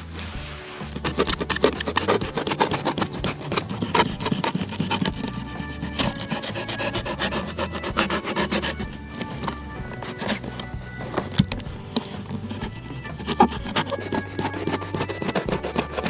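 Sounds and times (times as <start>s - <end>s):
hand tool rasping strokes: 0.0s - 16.0s.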